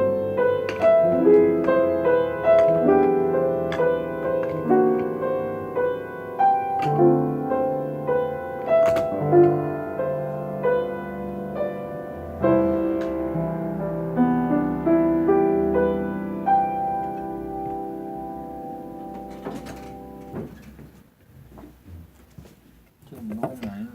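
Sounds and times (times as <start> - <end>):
solo piano piece: 0.0 - 21.1.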